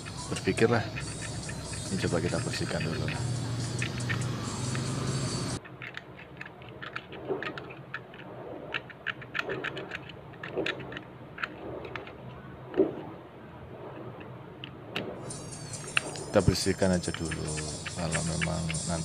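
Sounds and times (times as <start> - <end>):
hands clicking and scraping lock: 0.0 - 5.0, 5.6 - 12.9, 15.7 - 19.0.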